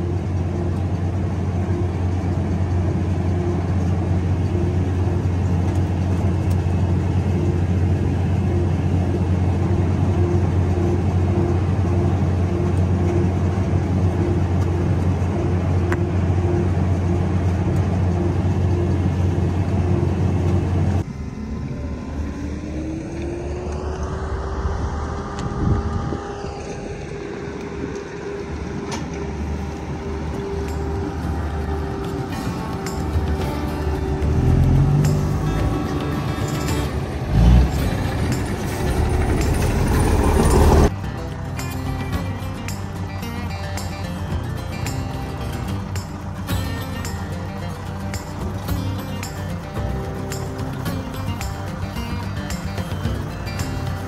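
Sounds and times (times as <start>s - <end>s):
engine revving: 0.0s - 54.0s
tractor engine drone: 0.0s - 54.0s.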